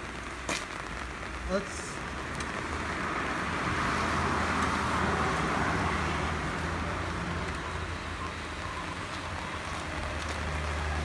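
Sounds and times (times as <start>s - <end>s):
rain: 0.0s - 11.0s
vehicle tyres hissing on wet road: 0.0s - 11.0s.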